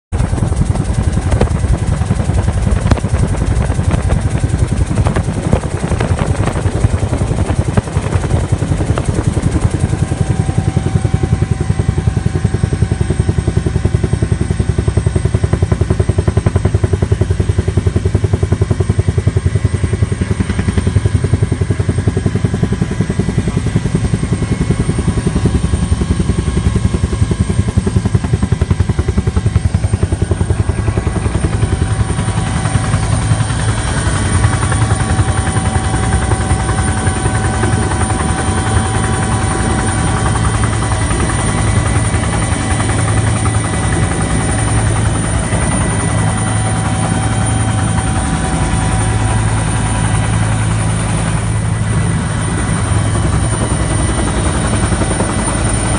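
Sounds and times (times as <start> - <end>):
helicopter rotor beat: 0.1 - 55.9
helicopter whine: 0.1 - 55.9.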